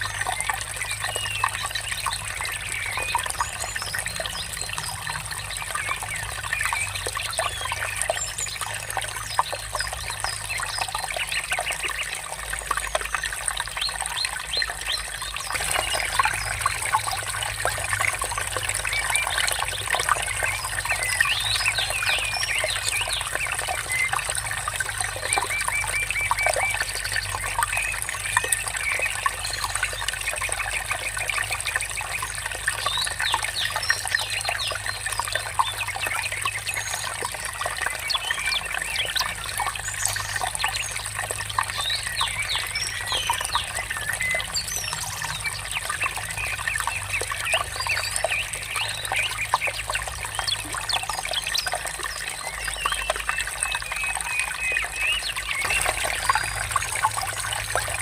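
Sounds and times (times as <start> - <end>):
small birds chirping: 0.0 - 58.0
water trickling: 0.0 - 58.0.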